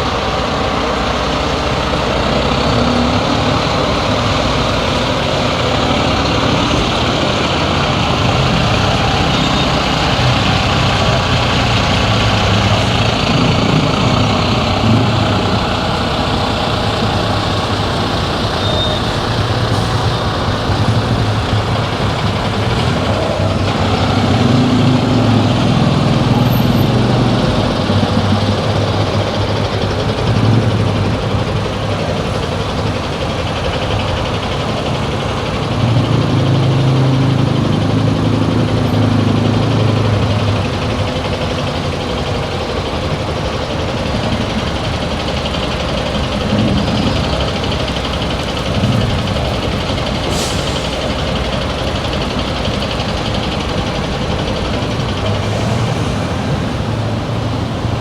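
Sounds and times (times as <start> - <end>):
car engine hum and road noise: 0.0 - 58.0.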